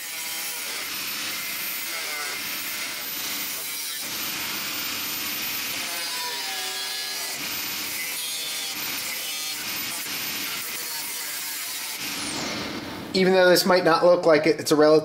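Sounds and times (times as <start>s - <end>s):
angle grinder cutting sheet steel: 0.0s - 12.9s.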